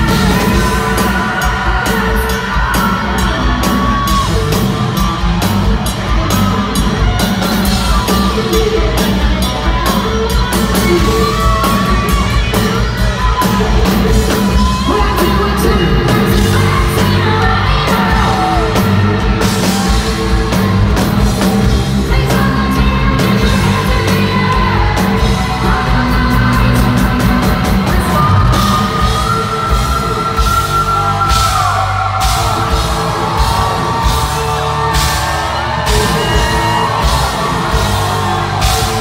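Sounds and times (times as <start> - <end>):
person yelling singing: 0.0 - 20.7, 21.5 - 39.0
distorted electric guitar: 0.0 - 39.0
drums and bass: 0.0 - 39.0.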